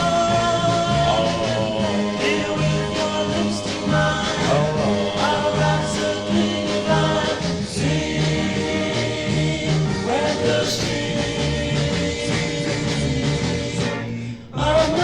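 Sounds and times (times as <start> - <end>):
group voices singing: 0.0 - 15.0
pop band with stepping bass: 0.0 - 15.0.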